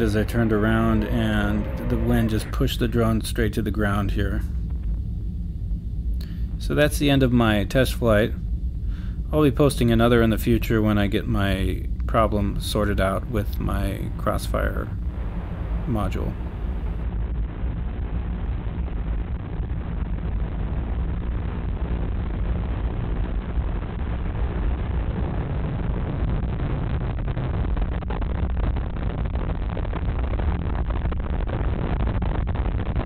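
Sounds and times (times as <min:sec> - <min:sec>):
loud low rumbling noise: 0:00.0 - 0:33.0.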